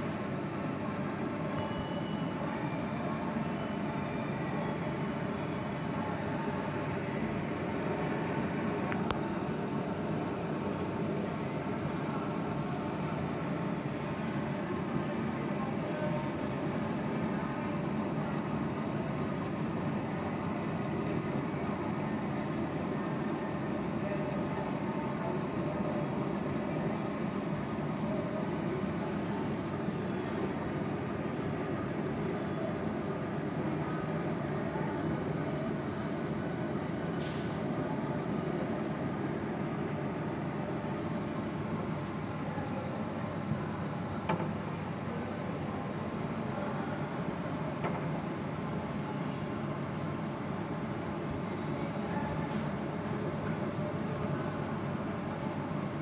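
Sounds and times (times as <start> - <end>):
steady low background noise: 0.0 - 56.0.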